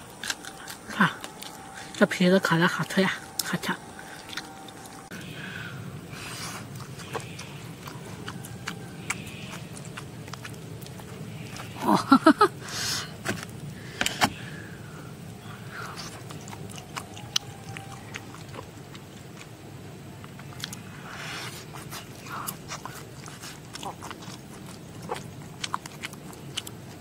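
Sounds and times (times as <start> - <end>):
person chewing: 0.0 - 5.4, 6.1 - 14.4, 15.7 - 27.0.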